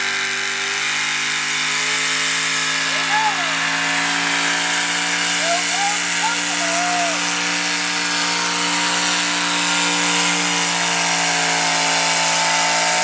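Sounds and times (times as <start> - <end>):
engine running at high revs: 0.0 - 13.0.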